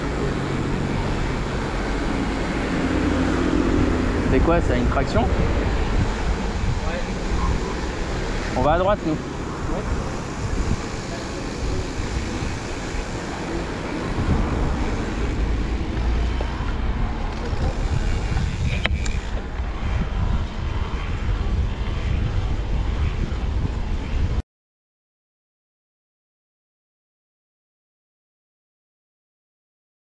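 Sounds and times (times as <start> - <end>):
tyre and road noise: 0.0 - 24.4
wind buffeting microphone: 0.0 - 24.4.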